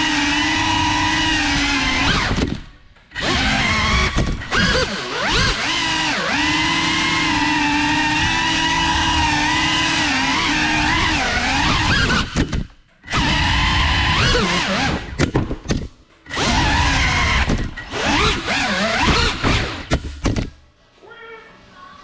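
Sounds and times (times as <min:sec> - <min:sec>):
drone motors whining: 0:00.0 - 0:15.2, 0:16.2 - 0:20.0.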